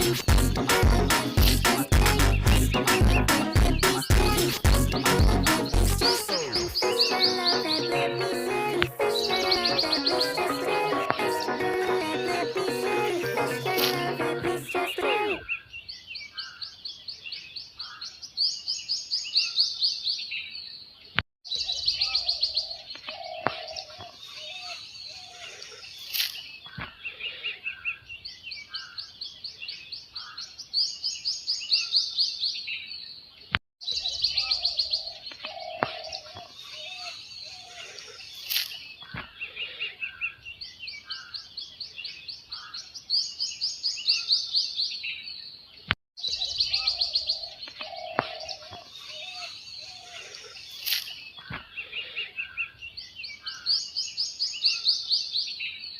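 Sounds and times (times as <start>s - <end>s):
songbirds chirping trills: 0.0s - 55.9s.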